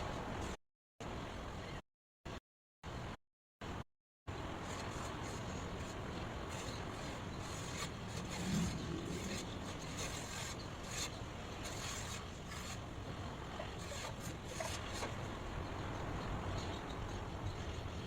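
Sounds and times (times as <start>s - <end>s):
steady rushing white noise: 2.9s - 18.0s.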